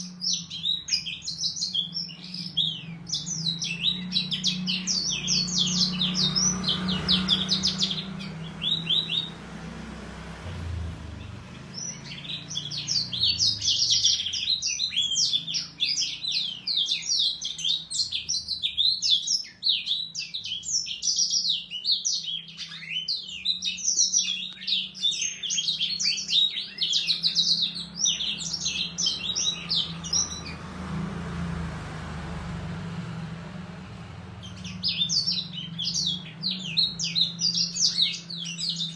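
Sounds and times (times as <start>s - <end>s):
birds singing fast trills: 0.0s - 38.9s.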